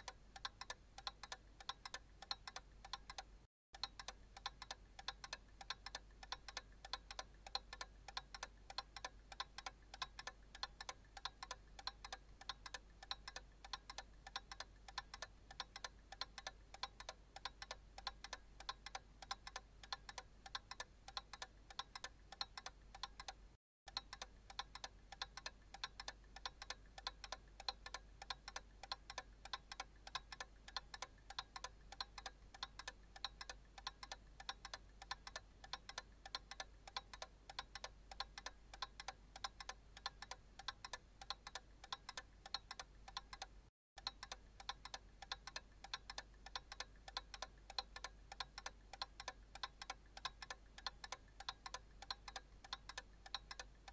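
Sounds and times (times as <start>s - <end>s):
clock ticking: 0.0s - 53.9s.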